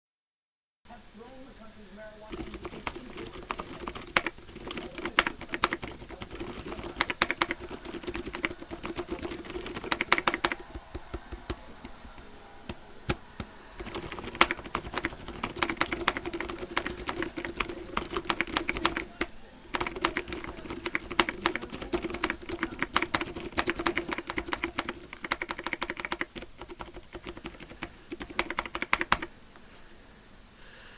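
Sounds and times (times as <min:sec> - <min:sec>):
muted mechanical keyboard typing: 0:02.3 - 0:29.3.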